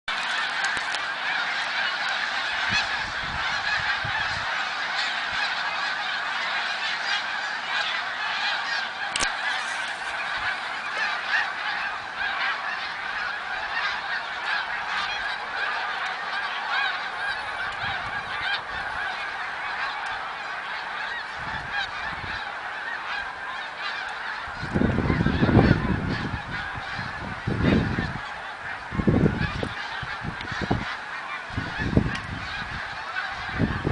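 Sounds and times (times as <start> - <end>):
geese honking: 0.1 - 33.9.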